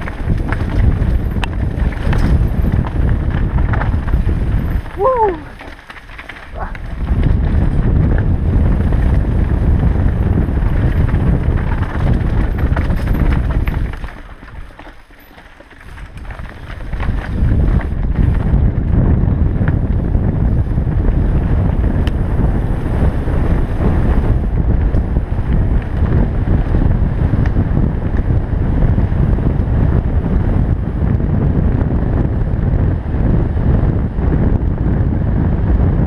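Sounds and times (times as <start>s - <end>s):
wind buffeting microphone: 0.0s - 15.2s, 15.8s - 36.0s
bike tyres rumbling on dirt: 0.0s - 36.0s.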